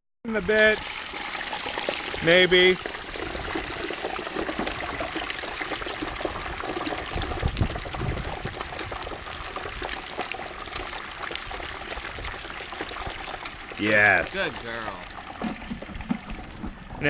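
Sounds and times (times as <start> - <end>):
oil bubbling and sizzling: 0.3 - 17.0.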